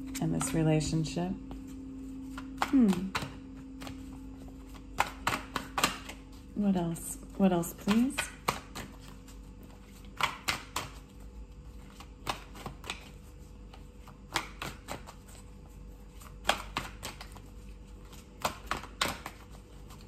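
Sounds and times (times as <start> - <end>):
cards being shuffled: 1.5 - 6.6, 7.8 - 20.0.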